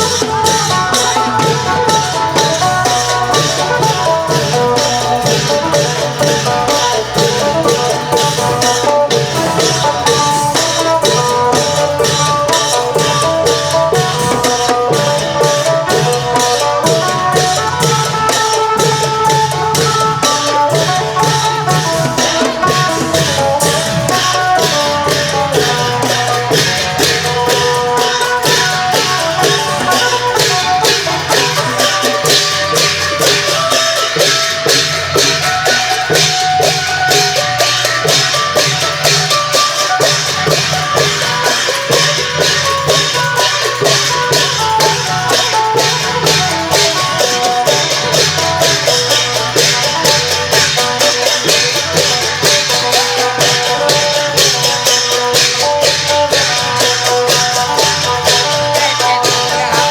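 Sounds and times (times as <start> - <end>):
long-drum ensemble playing: 0.0 - 59.9.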